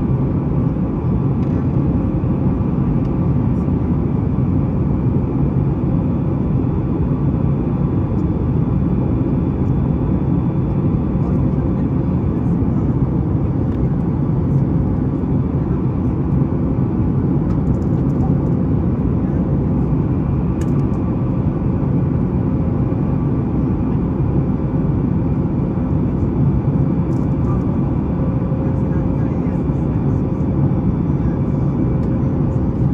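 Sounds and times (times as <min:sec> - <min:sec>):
airplane cabin rumble: 0:00.0 - 0:32.9.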